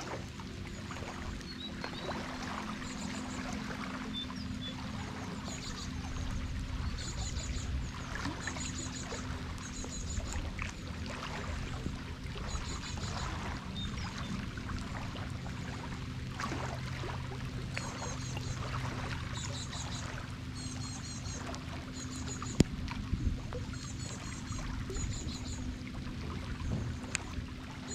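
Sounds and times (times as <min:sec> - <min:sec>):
low steady hum: 0:00.0 - 0:27.9
water trickling and pouring: 0:00.0 - 0:27.9.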